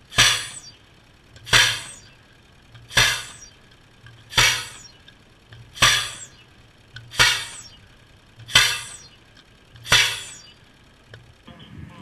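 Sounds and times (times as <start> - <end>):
sharp ringing impacts: 0.0 - 11.4
short low hum: 0.0 - 12.0.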